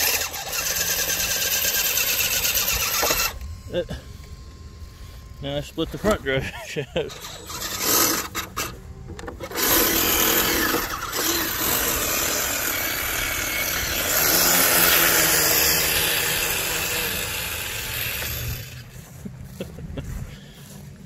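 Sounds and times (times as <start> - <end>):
rc truck motor grinding: 0.0 - 19.2.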